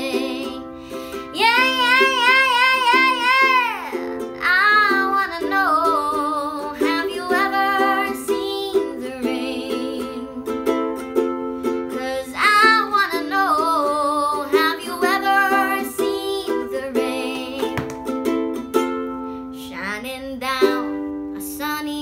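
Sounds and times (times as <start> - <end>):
girl singing: 0.0 - 18.2, 19.5 - 22.0
ukulele strumming: 0.0 - 22.0.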